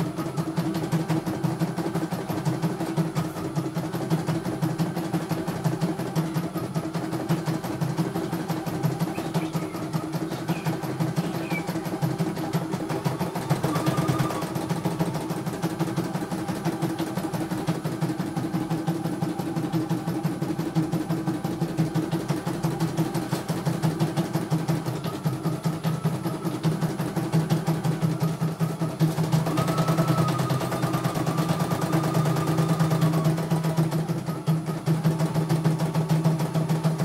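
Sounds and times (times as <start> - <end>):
motor hum: 0.0 - 37.0.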